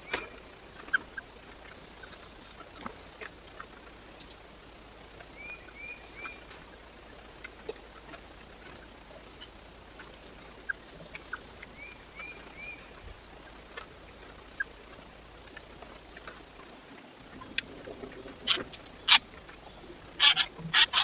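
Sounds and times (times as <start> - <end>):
small bird chirping: 0.0 - 16.6, 17.2 - 21.0
light taps and ticks: 0.0 - 21.0
microphone hiss: 0.0 - 21.0.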